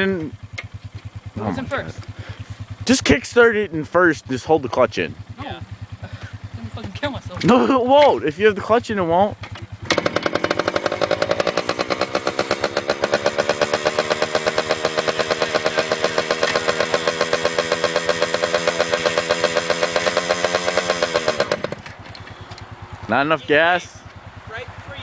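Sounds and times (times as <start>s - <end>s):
dirt bike engine idling: 0.0s - 25.0s.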